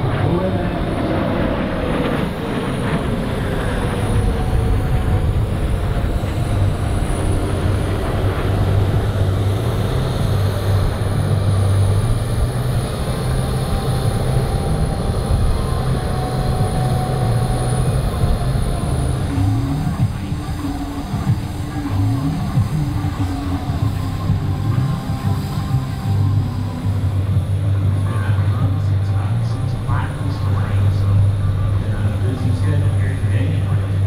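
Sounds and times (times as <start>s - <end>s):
jet aircraft flying past: 0.0s - 34.0s.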